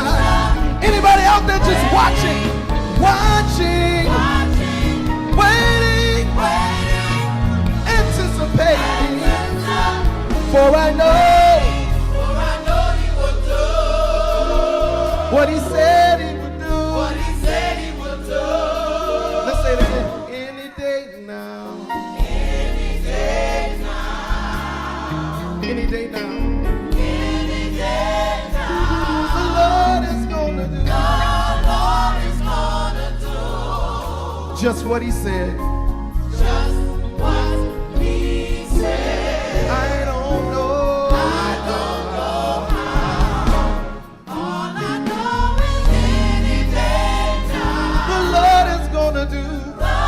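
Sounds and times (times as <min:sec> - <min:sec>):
bass line: 0:00.0 - 0:20.3, 0:22.2 - 0:50.0
band accompaniment: 0:00.0 - 0:50.0
gospel choir singing: 0:00.0 - 0:50.0.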